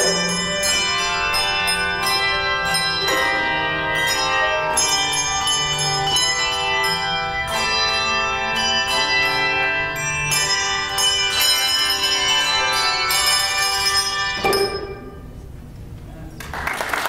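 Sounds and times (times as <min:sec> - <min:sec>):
handbell choir ringing: 0:00.0 - 0:15.3.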